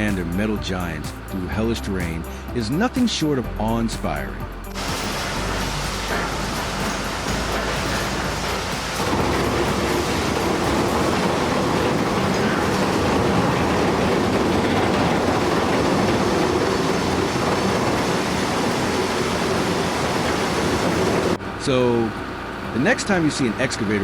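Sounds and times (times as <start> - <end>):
heavy machinery rumbling and rattling: 4.5 - 24.0.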